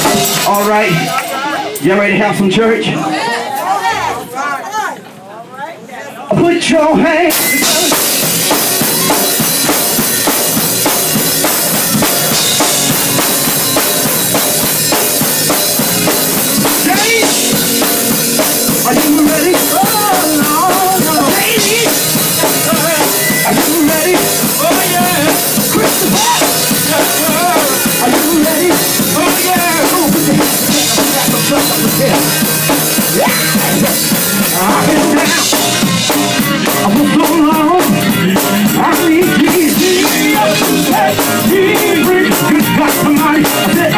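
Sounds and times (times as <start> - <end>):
drum kit beat: 0.0 - 2.5, 6.3 - 43.9
live gospel band: 0.0 - 4.8, 6.3 - 43.9.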